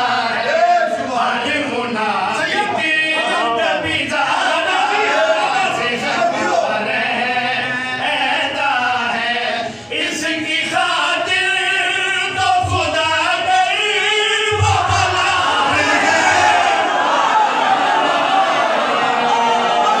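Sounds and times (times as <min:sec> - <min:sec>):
men chanting together: 0:00.0 - 0:20.0.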